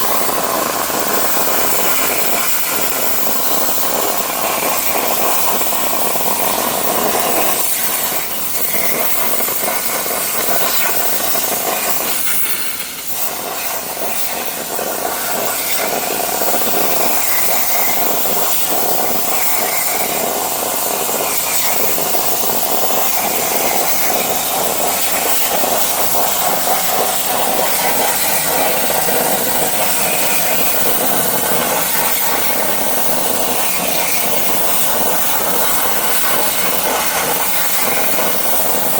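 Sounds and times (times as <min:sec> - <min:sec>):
plasma cutter hissing: 0:00.0 - 0:38.9.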